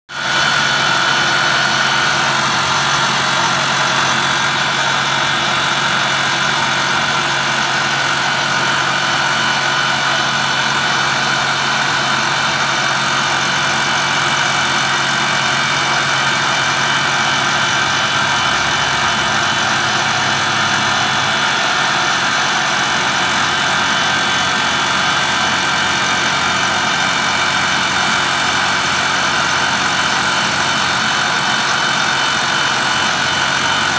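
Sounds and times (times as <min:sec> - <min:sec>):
machine tool whining: 0:00.2 - 0:33.9.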